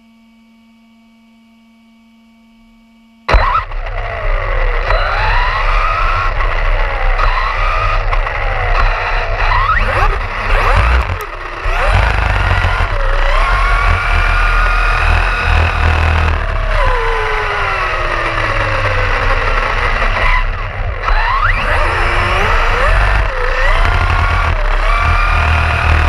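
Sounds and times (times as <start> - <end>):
electric motor whining: 3.3 - 26.0
wind and vibration rumble: 3.7 - 26.0.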